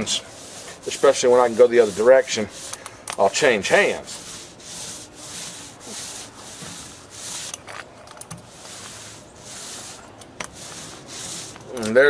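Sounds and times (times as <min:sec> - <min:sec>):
stain applicator scraping wood: 0:00.0 - 0:07.6, 0:08.4 - 0:11.8.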